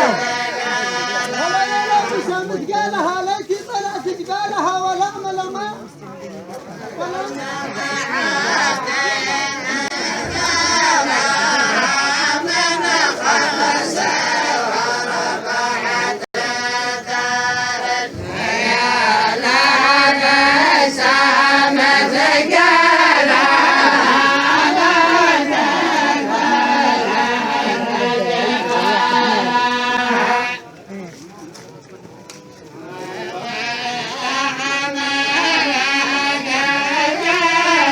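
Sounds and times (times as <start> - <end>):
group of voices chanting: 0.0 - 2.7, 7.1 - 30.6, 32.9 - 37.9.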